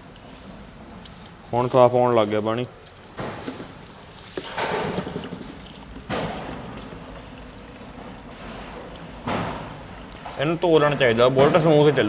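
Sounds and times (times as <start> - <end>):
water pouring and splashing: 0.0 - 11.9.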